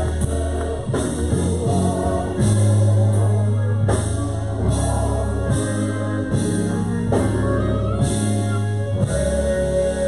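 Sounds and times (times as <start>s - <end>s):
band playing: 0.0s - 10.0s
singers singing gospel: 0.0s - 10.0s.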